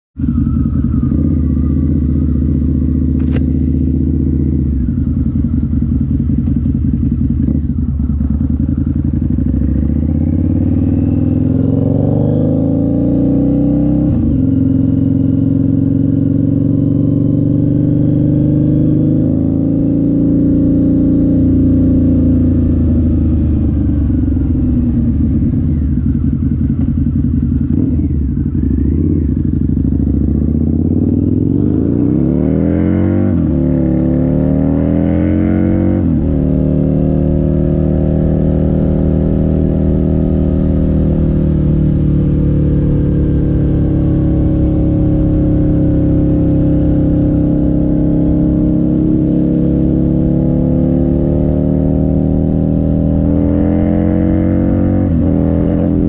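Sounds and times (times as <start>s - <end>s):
motorcycle engine riding: 0.2s - 56.0s.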